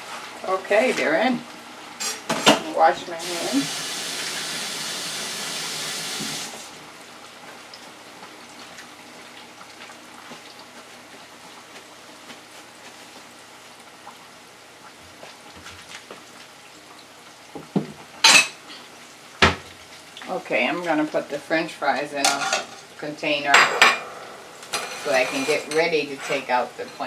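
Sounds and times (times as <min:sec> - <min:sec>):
tap water running: 0:00.6 - 0:10.8, 0:14.8 - 0:27.0.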